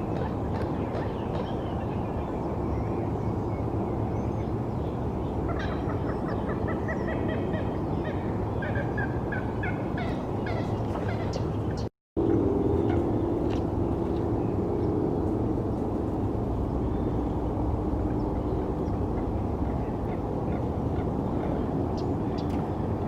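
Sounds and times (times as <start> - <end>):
distant city traffic rumble: 0.0 - 23.0.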